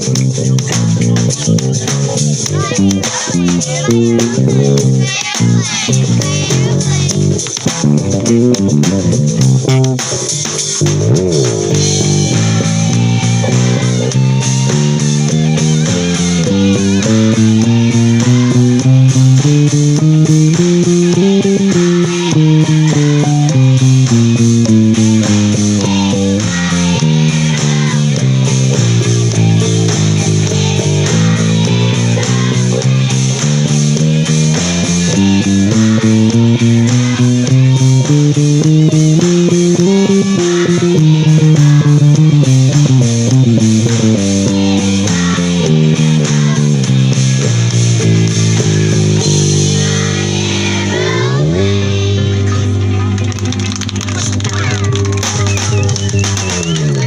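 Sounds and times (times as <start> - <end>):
bass guitar: 0.0 - 57.0
electric guitar plucked notes: 0.0 - 57.0.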